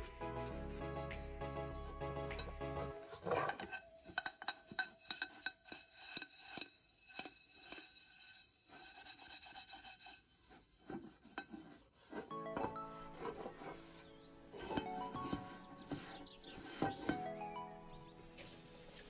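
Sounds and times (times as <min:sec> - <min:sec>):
steel wool scraping metal pot: 0:00.0 - 0:17.3.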